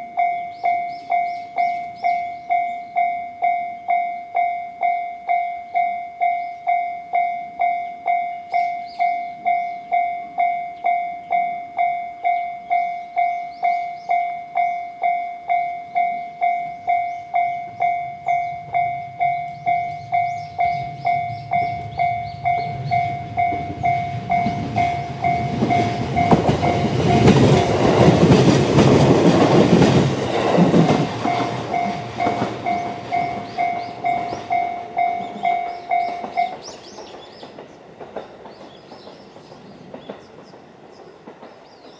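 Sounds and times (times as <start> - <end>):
level crossing warning bell: 0.0 - 36.9
train rumble and wheel clatter: 0.0 - 41.9.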